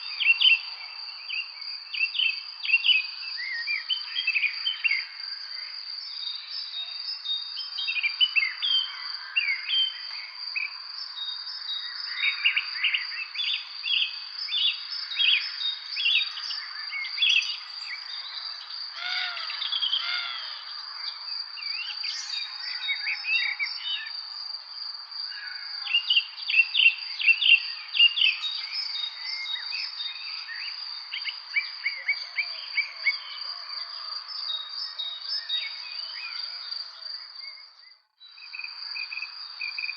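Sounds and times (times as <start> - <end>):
songbirds chirping: 0.0 - 39.9
insect trill: 0.2 - 39.9.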